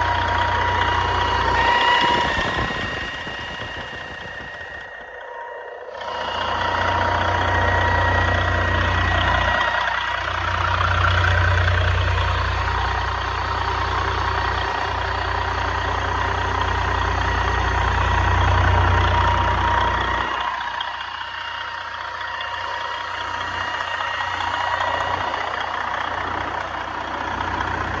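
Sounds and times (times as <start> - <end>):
diesel engine idling rumble: 0.0 - 28.0
high engine whine: 0.0 - 28.0.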